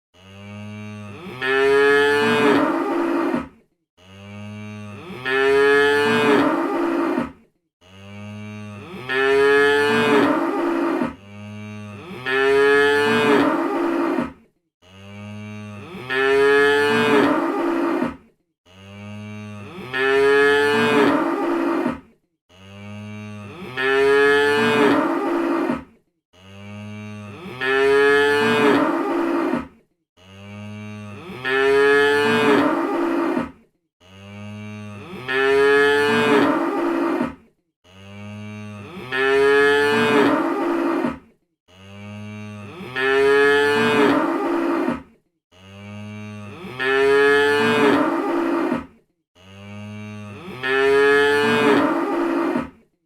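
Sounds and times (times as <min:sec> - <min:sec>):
cows mooing: 0:00.2 - 0:25.8, 0:26.4 - 0:52.7.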